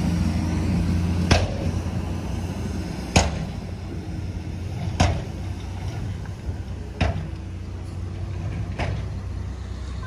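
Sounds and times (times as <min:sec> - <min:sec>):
heavy machinery engine running: 0:00.0 - 0:10.0.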